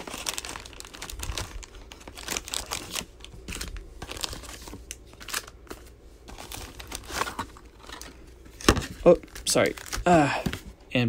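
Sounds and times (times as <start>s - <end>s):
foil packs crinkling: 0.0s - 10.7s.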